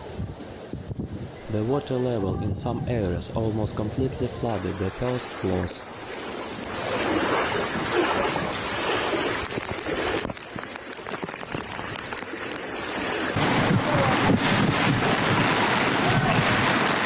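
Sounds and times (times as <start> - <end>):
floodwater rushing and splashing: 0.0 - 17.0.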